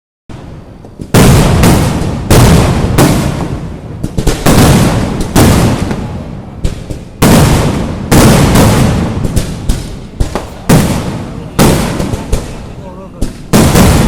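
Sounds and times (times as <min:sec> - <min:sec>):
firecracker blasts with booming echo: 0:00.3 - 0:14.0.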